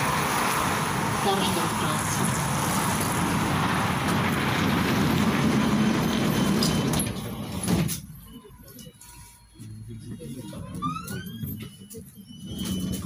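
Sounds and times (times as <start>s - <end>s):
tram running noise: 0.0s - 13.0s.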